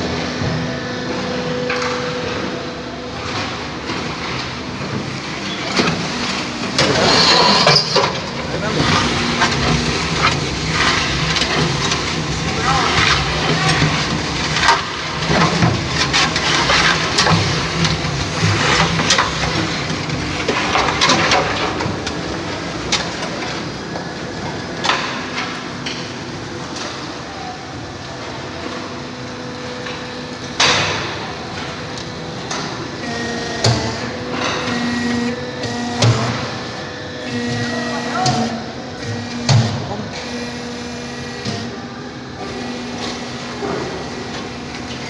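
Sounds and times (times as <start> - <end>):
block press machine running: 0.0 - 45.0.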